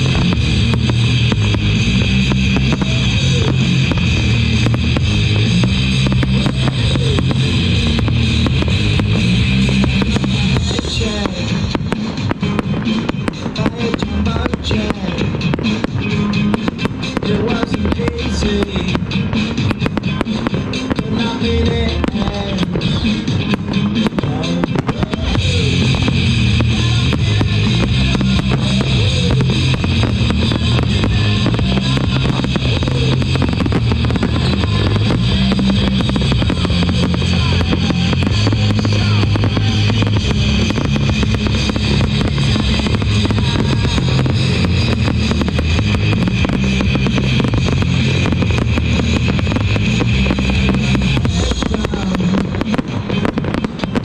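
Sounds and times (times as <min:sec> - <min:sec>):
fireworks crackling and popping: 0:00.0 - 0:54.0
loud music with drum beat: 0:00.0 - 0:54.0.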